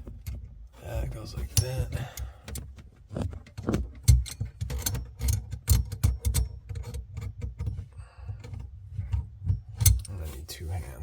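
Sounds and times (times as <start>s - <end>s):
plumbing parts clicking and knocking: 0.0s - 10.4s.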